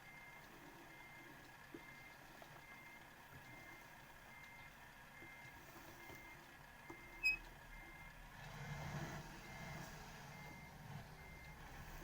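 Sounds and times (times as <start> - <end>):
reversing alarm beeping: 0.0 - 8.2, 9.4 - 12.0.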